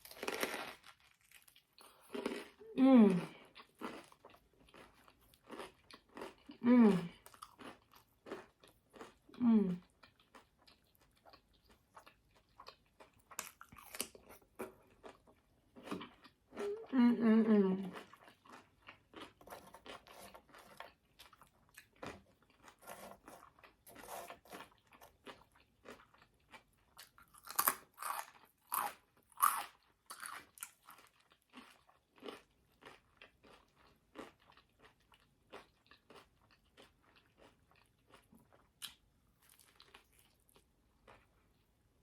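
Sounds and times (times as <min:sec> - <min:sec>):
chewing crunchy food: 0:00.0 - 0:17.0, 0:17.7 - 0:42.0.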